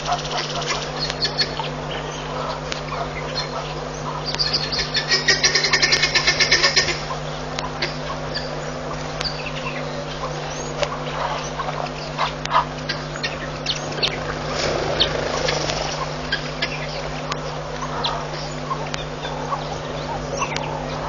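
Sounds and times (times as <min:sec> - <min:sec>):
birds chirping and calling: 0:00.0 - 0:21.0
low electrical hum: 0:00.0 - 0:21.0.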